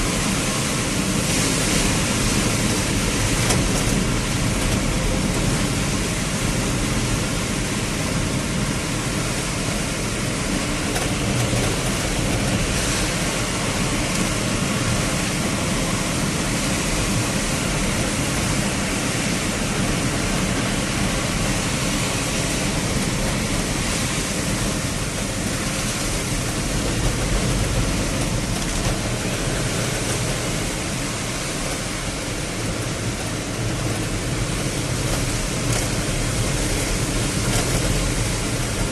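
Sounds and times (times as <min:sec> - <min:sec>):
heavy rain on vehicle: 0:00.0 - 0:38.9
road noise: 0:00.0 - 0:38.9
wind noise: 0:00.0 - 0:38.9.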